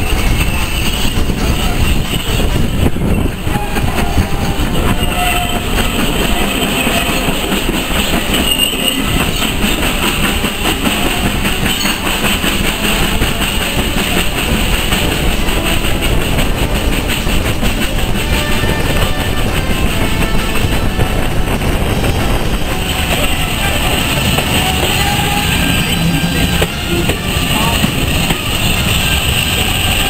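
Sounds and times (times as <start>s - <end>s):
train steady rumble: 0.0s - 30.0s
wheels clicking over rail joints: 0.0s - 30.0s.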